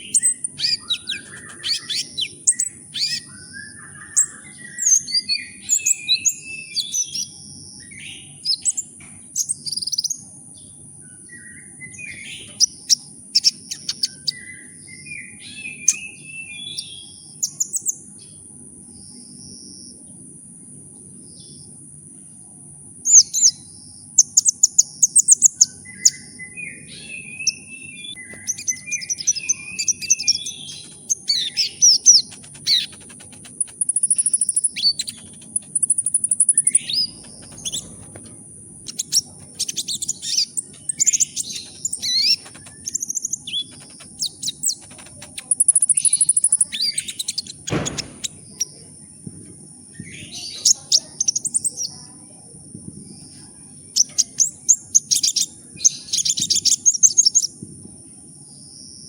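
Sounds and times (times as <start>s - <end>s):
songbird chirps and trills: 0.0s - 20.1s, 23.0s - 49.1s, 49.9s - 52.4s, 53.0s - 57.6s.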